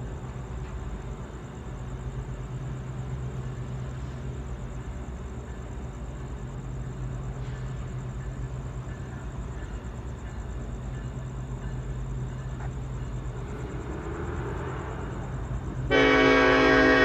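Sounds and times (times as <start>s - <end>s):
freight train locomotive rumble: 0.0s - 17.0s.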